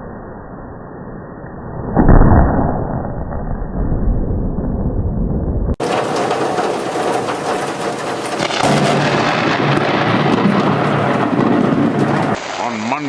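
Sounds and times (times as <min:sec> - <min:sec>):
thunder rumbling and crackling: 0:01.8 - 0:13.0.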